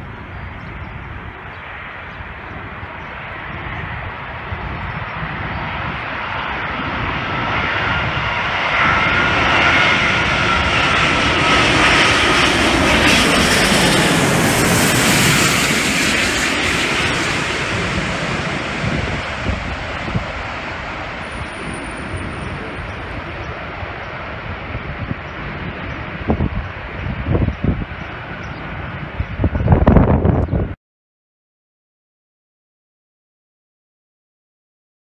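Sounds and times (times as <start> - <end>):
jet airliner passing overhead: 0.0 - 30.8
jet engine whine: 0.0 - 30.8.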